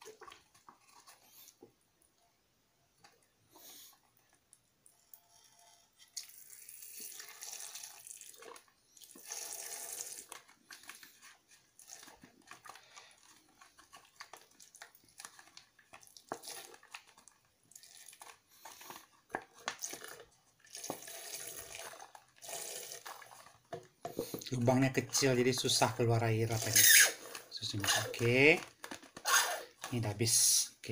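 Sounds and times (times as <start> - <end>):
milk pouring into plastic jug: 0.0 - 1.8, 3.9 - 29.2.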